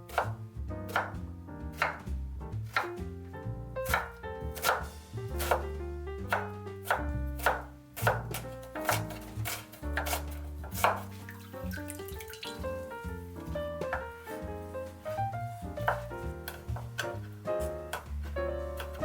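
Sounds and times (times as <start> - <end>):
knife chopping on cutting board: 0.0 - 3.1, 3.8 - 19.0
soft background music: 0.1 - 19.0.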